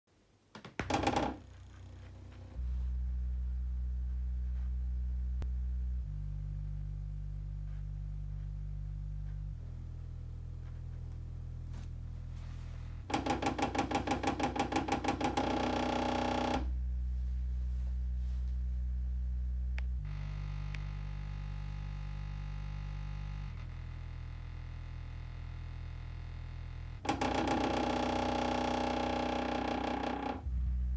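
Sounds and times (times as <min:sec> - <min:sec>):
bass test tones through speakers: 0:00.9 - 0:30.9.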